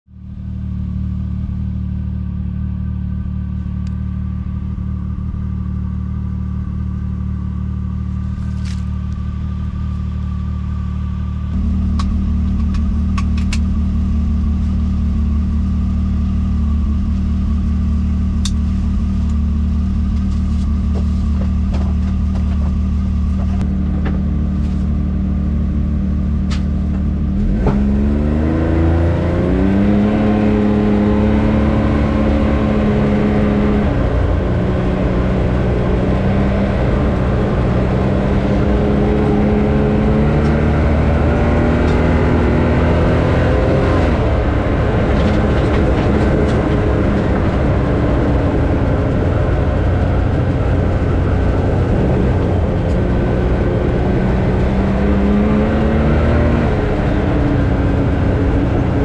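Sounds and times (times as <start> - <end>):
vehicle engine running: 0.1 - 59.0.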